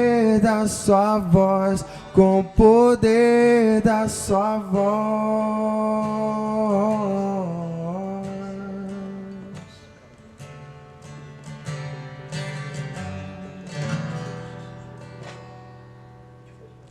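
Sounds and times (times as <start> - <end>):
acoustic guitar strums: 0.0 - 16.9.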